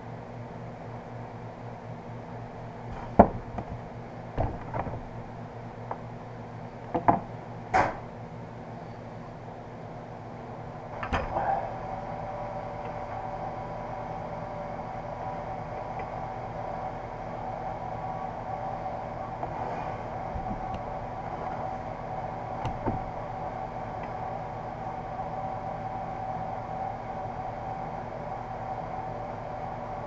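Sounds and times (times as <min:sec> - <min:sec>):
machine hum with whine: 0:00.0 - 0:30.0.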